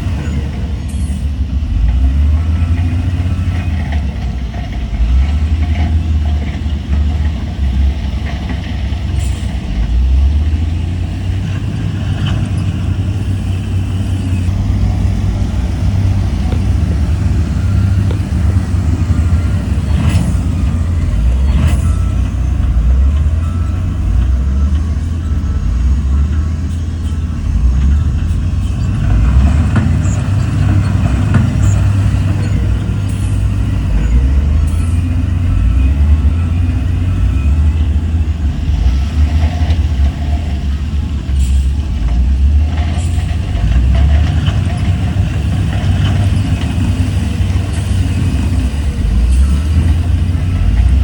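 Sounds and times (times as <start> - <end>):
heavy diesel machinery rumbling: 0.0 - 51.0
metal clanks: 0.2 - 51.0.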